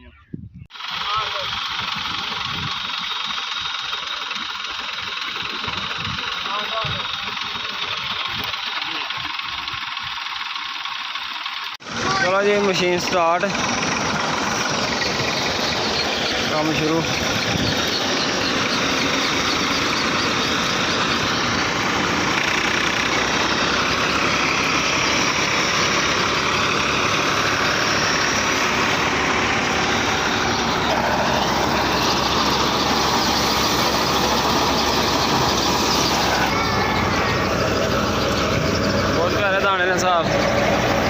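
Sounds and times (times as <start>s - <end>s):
tractor engine running: 0.6s - 41.0s
thresher mechanical din: 0.7s - 41.0s.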